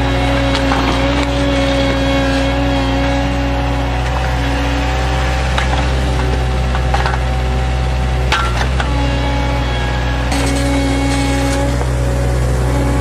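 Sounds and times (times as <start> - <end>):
loader engine and hydraulics: 0.0 - 13.0.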